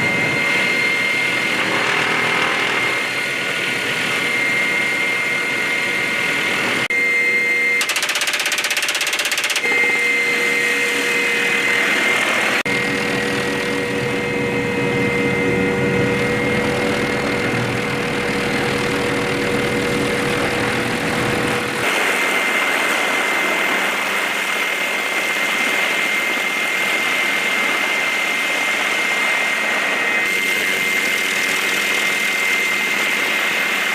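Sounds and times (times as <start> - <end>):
helicopter rotor noise: 0.0 - 33.9
helicopter turbine whine: 0.0 - 33.9.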